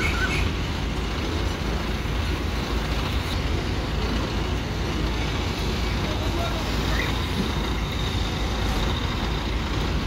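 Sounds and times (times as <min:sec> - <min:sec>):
crane diesel engine rumble: 0:00.0 - 0:10.0.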